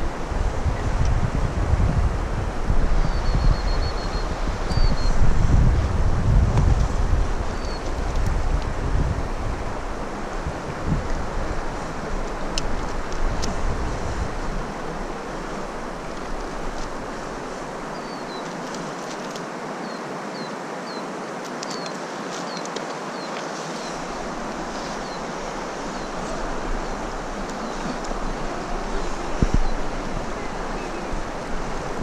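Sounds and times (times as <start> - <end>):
wind buffeting microphone: 0.0 - 18.9, 23.8 - 32.0
flowing river water: 0.0 - 32.0.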